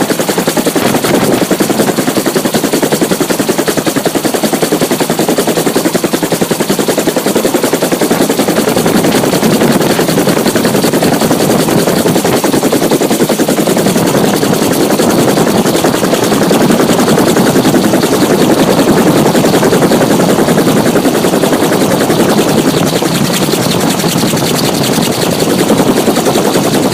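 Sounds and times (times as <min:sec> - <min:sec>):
helicopter rotor chopping: 0:00.0 - 0:26.9.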